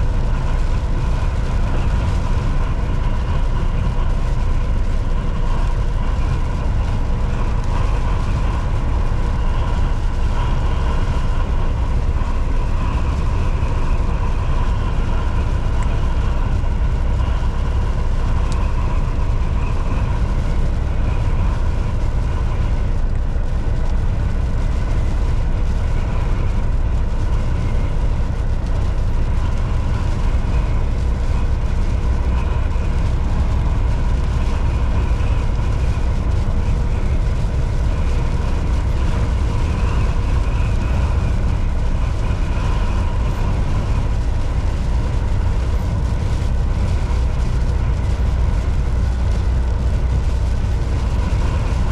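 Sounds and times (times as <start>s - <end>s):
road noise: 0.0s - 51.9s
truck engine drone: 0.0s - 51.9s.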